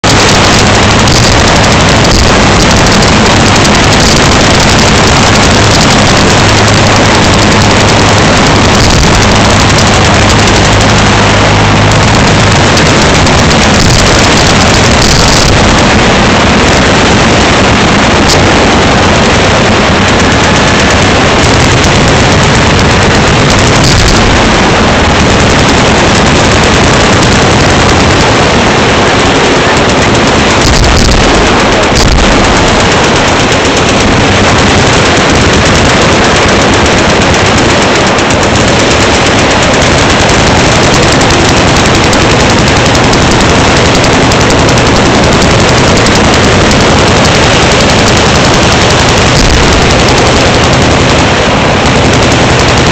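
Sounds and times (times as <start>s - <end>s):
machine guns firing: 0.0s - 52.9s.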